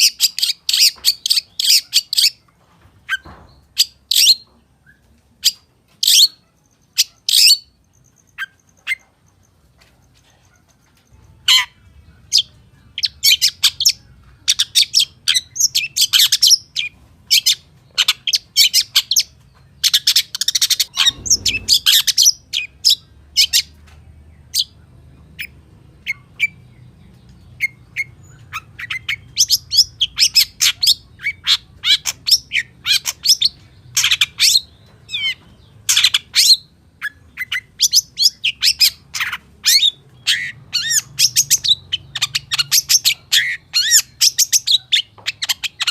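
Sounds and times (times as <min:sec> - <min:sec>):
bird singing chirps and squawks: 0:00.0 - 0:02.4, 0:03.1 - 0:09.1, 0:11.4 - 0:23.8, 0:24.5 - 0:45.9.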